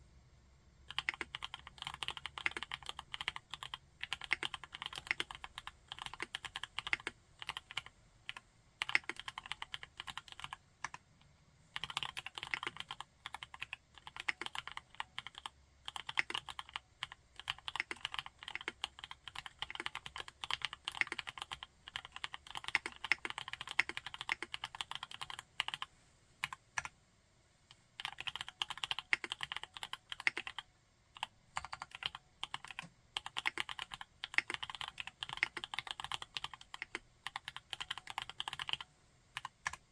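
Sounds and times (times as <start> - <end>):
mechanical keyboard typing: 0.9 - 11.0, 11.8 - 26.9, 27.7 - 30.6, 31.2 - 39.9.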